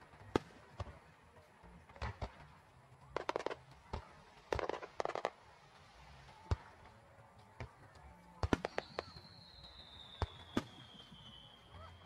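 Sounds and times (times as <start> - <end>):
crackling fireworks reports: 0.0 - 12.0.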